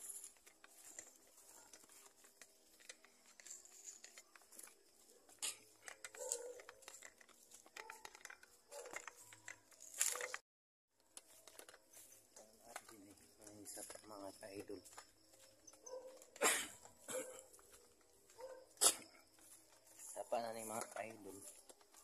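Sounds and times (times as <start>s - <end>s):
rustling and crackling: 0.0s - 10.4s, 11.0s - 22.0s.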